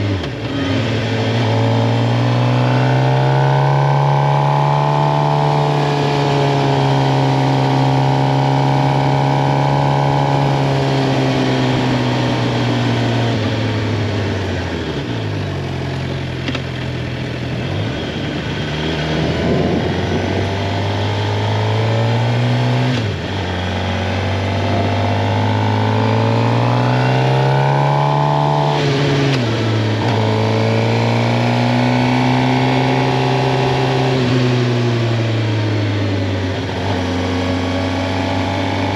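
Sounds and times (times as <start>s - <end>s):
motorcycle engine revving and shifting: 0.0s - 38.9s.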